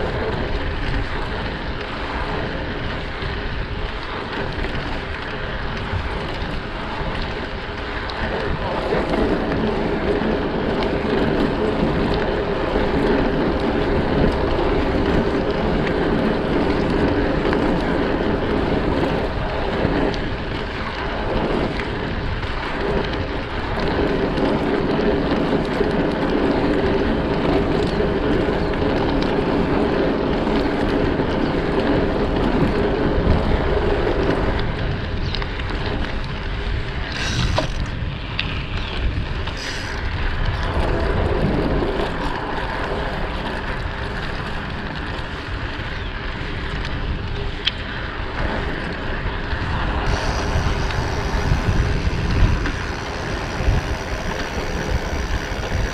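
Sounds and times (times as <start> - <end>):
bike tyres rolling: 0.0 - 55.9
wind on microphone: 0.0 - 55.9.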